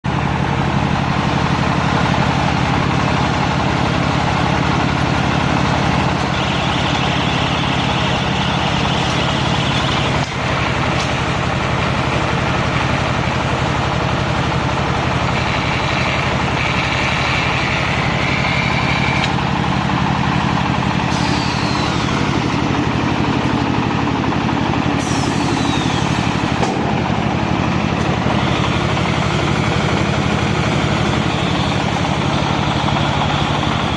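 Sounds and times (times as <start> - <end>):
baling machine drone: 0.1 - 33.9
machine whine: 0.1 - 33.9.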